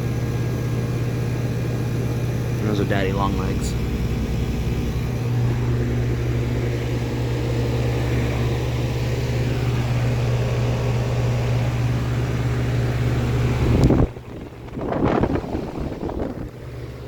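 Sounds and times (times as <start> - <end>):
compressor humming: 0.0 - 17.0
condenser fan rushing: 0.0 - 17.0.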